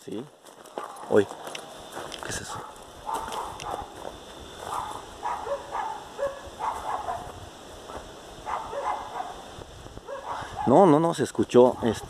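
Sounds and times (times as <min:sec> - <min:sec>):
distant dogs barking: 0:00.6 - 0:11.0, 0:11.6 - 0:12.0.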